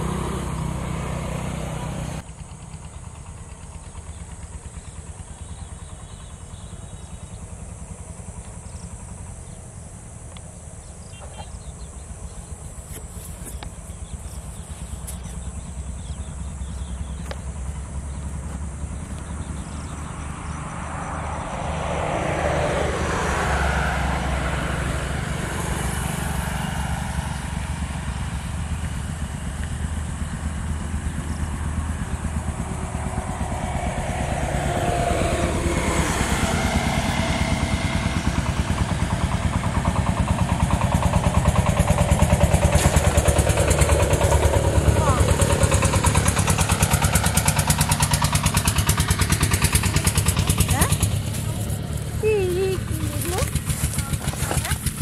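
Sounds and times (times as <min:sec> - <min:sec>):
engine throbbing: 0:00.0 - 0:55.0.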